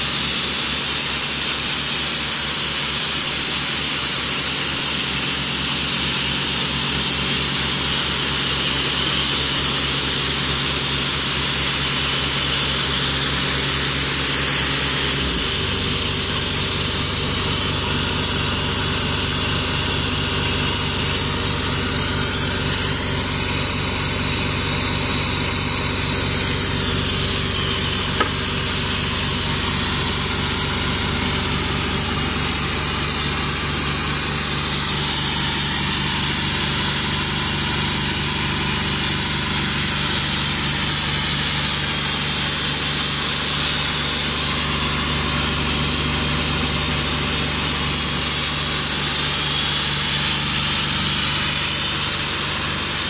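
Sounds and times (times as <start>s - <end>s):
air compressor diesel engine running: 0.0s - 53.0s
hiss: 0.0s - 53.0s.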